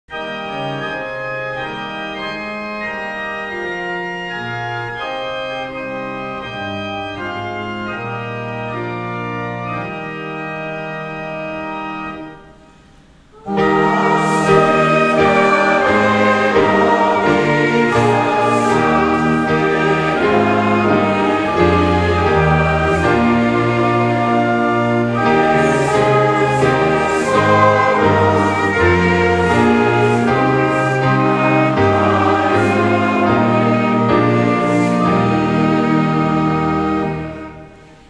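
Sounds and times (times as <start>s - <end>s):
organ playing a hymn: 0.1s - 38.0s.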